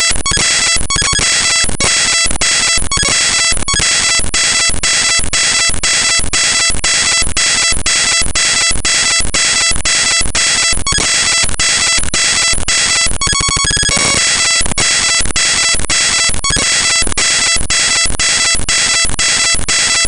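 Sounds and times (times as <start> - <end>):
fast clicks: 0.0 - 20.0
harsh digital noise: 0.0 - 20.0
pulsing beeping tones: 0.0 - 20.0.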